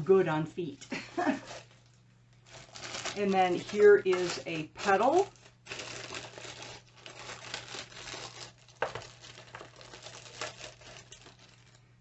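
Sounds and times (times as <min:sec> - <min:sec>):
packaging crinkling: 0:01.0 - 0:12.0.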